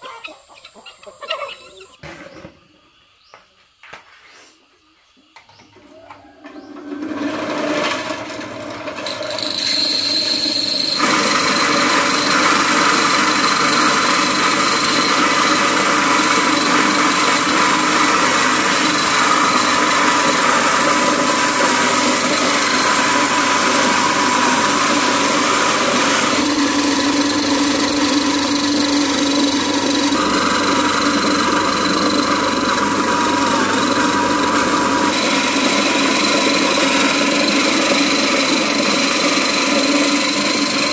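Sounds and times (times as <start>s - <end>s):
electric grain mill grinding: 5.8s - 40.9s.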